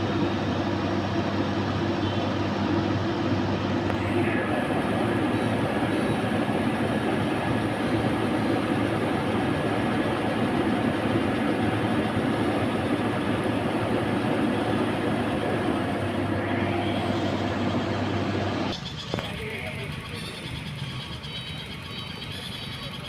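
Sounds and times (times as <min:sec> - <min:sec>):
low hum: 0:00.0 - 0:22.6
road traffic rumble: 0:00.0 - 0:23.0.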